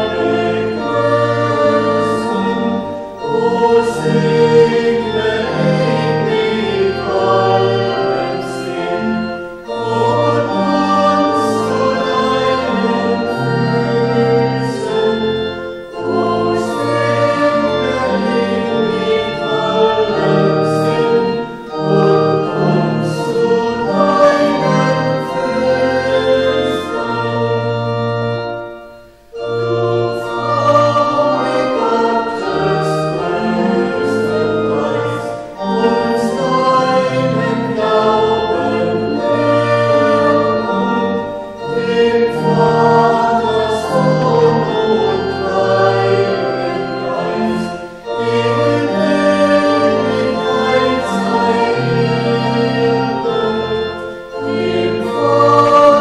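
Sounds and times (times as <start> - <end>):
instrumental accompaniment: 0.0 - 56.0
voices singing a hymn: 0.0 - 56.0.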